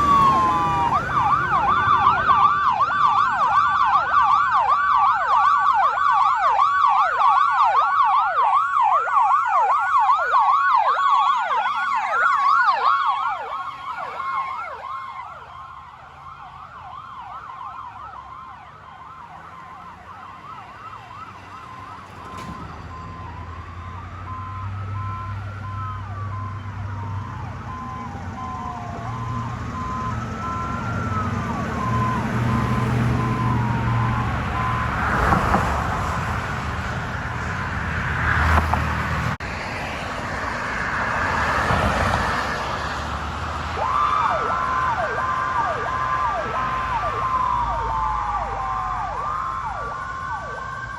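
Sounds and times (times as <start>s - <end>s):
electronic siren yelp: 0.0s - 35.7s, 43.7s - 50.9s
siren wail: 0.0s - 50.9s.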